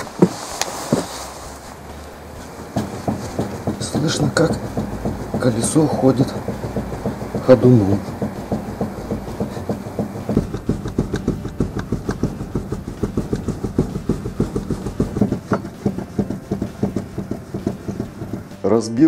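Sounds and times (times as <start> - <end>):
tie rod end knocking: 2.8 - 18.6.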